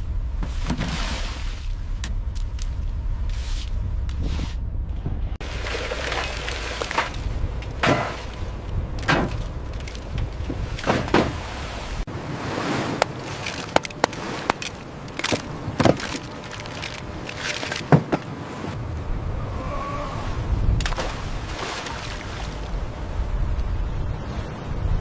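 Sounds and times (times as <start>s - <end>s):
low rumble: 0.0s - 17.8s, 18.6s - 25.0s.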